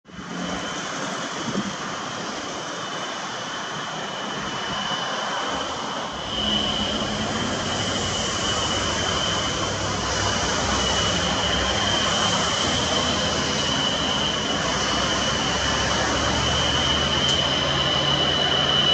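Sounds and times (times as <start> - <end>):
jet engines roaring: 0.1 - 18.9.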